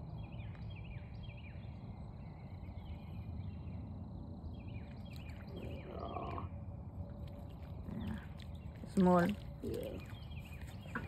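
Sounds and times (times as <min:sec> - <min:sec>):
bird chirping: 0:00.0 - 0:06.6, 0:07.6 - 0:11.0
low rumble: 0:00.0 - 0:11.0.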